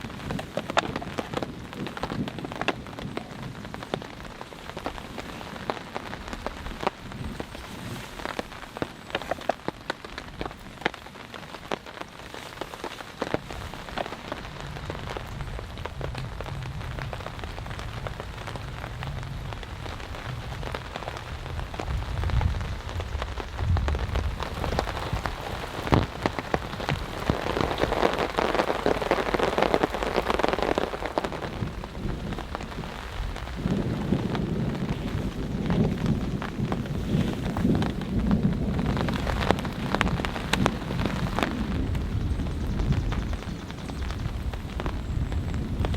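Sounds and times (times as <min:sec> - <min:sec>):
heavy rain on a tarp: 0:00.0 - 0:45.9
thunder rumbling: 0:00.0 - 0:45.9.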